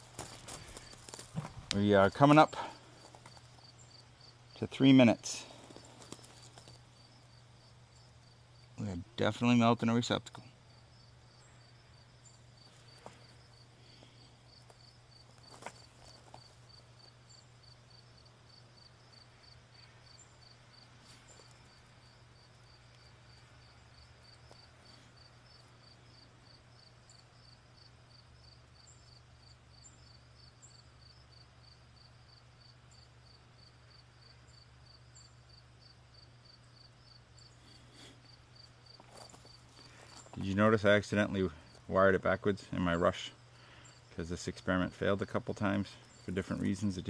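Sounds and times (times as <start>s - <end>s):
cricket chirping: 0.0s - 9.2s, 10.4s - 47.0s
low steady hum: 0.0s - 47.0s.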